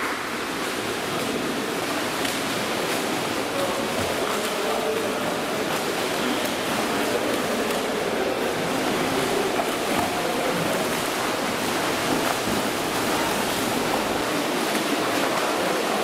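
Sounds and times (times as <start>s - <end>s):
swimmers splashing in pool: 0.0s - 16.0s.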